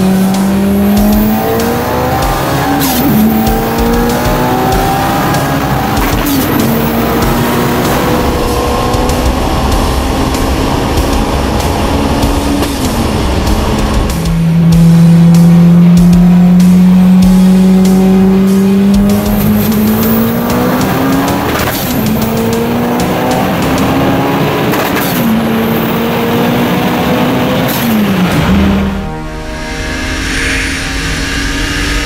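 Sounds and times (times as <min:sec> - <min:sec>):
car engine at full throttle: 0:00.0 - 0:32.0.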